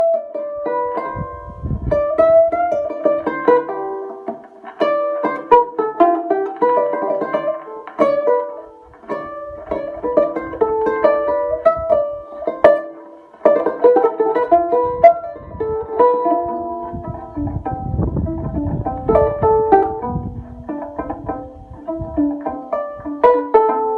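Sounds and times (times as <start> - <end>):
plucked string instrument melody: 0.0 - 23.9.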